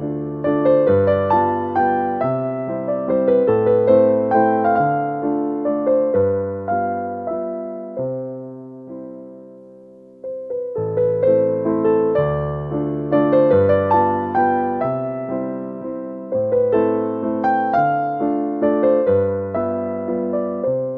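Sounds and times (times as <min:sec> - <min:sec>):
gentle solo piano: 0:00.0 - 0:20.9.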